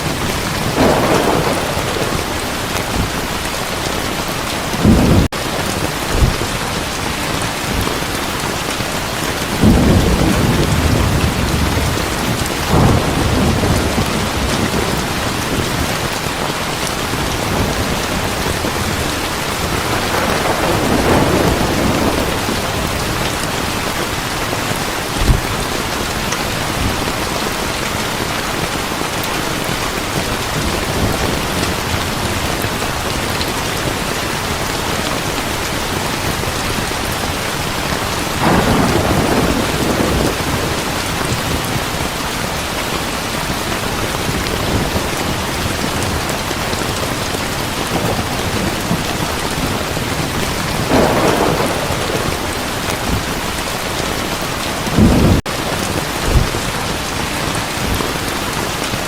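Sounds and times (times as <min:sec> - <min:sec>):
thunder clap: 0:00.0 - 0:08.2, 0:08.9 - 0:35.3, 0:37.0 - 0:42.2, 0:43.6 - 0:58.3
heavy rain: 0:00.0 - 0:59.0
thunder rumbling: 0:00.0 - 0:59.0.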